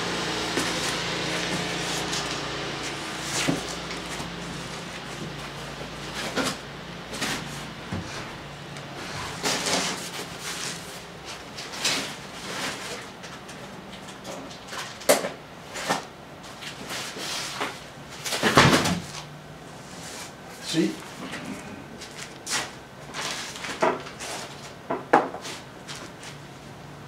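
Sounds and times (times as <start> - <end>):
cardboard rustling and scraping: 0.2 - 20.4, 22.0 - 26.5.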